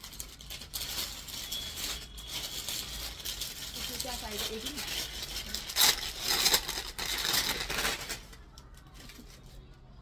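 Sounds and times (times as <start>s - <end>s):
garment wrapping rustling: 0.0s - 8.3s.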